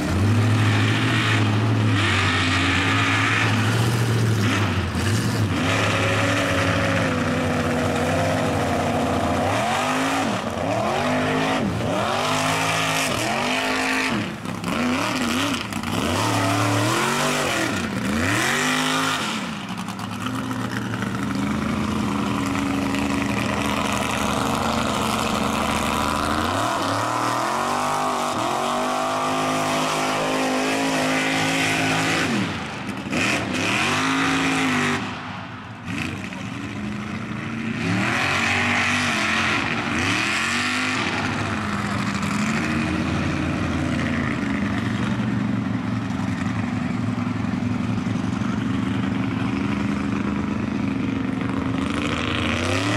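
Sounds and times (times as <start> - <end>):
truck engine revving hard: 0.0 - 35.2, 37.4 - 44.8, 51.6 - 52.9
tires spinning through mud: 0.0 - 45.1.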